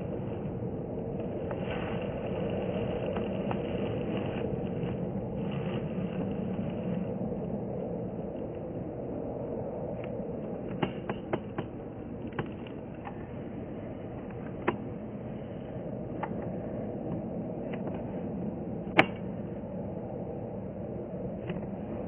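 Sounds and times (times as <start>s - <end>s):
distant jet engine: 0.0s - 22.0s.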